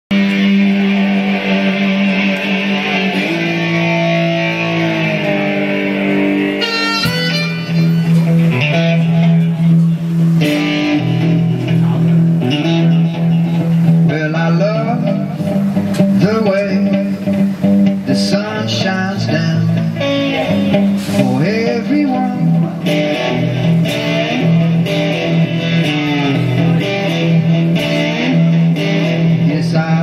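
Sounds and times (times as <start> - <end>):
slide guitar playing: 0.1 - 30.0.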